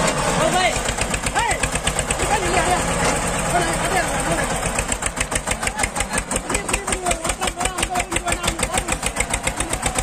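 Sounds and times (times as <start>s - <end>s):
tractor diesel engine chugging: 0.0s - 10.0s.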